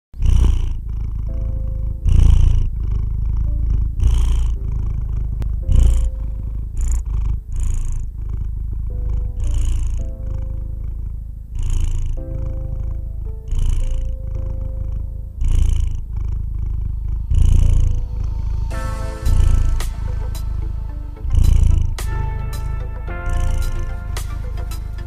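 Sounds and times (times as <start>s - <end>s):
cat purring: 0.2s - 24.8s
soft background music: 0.2s - 25.0s.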